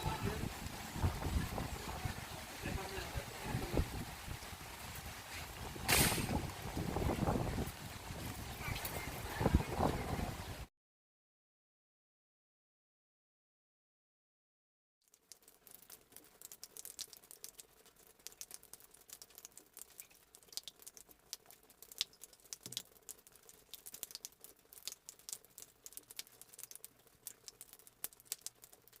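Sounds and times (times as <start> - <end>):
rain drops pattering: 0.0 - 10.7, 15.0 - 29.0.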